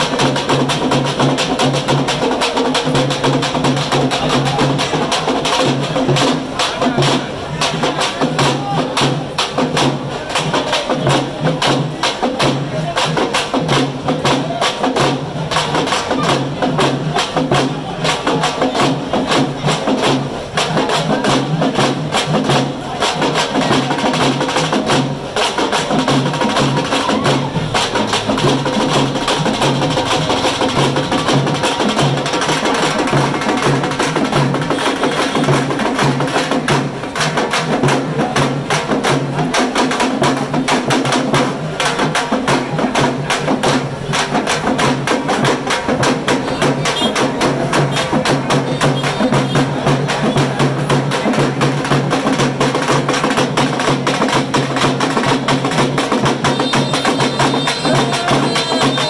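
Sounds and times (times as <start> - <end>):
drums beaten in fast rhythm: 0.0 - 59.0.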